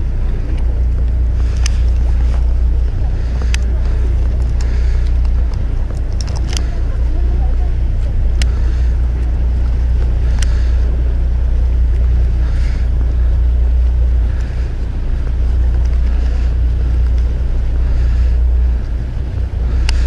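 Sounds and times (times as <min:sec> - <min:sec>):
boat engine droning: 0:00.0 - 0:20.0
wind noise on microphone: 0:00.0 - 0:20.0.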